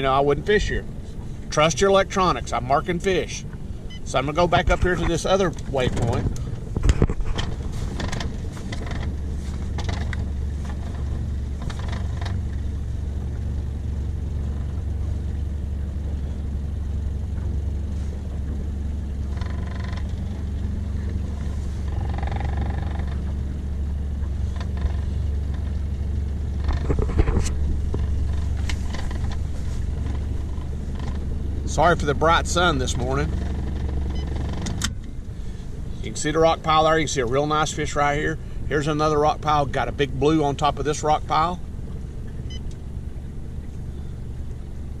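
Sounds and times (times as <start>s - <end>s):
outboard motor humming: 0.0s - 45.0s.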